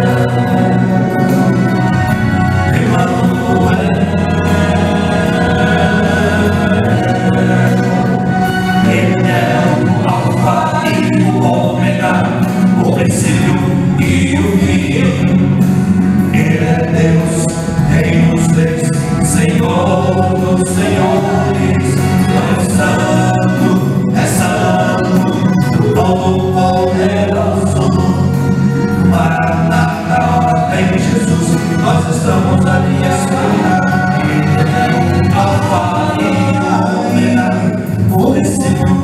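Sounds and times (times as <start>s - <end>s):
men singing in harmony: 0.0s - 39.0s.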